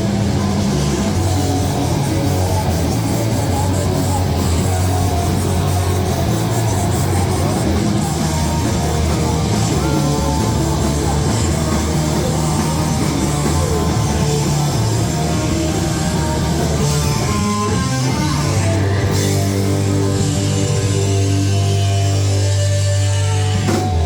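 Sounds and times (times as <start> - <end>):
bass guitar: 0.0 - 24.0
distorted electric guitar: 0.0 - 24.0
drum kit pounding: 0.0 - 24.0.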